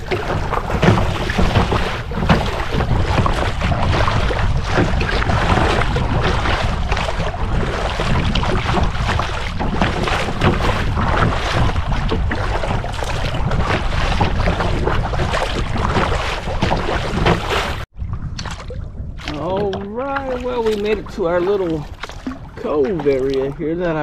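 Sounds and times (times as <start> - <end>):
water splashing against kayak: 0.0 - 24.0
wind blowing over microphone: 0.0 - 24.0.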